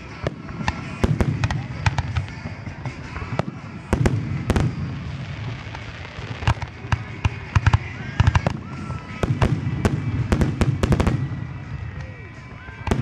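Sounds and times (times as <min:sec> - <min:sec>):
firework bursts and crackling: 0:00.0 - 0:13.0.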